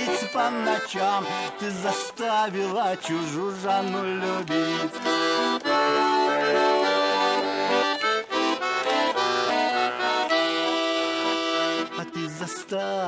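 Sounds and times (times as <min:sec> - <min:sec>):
button accordion playing: 0:00.0 - 0:13.0.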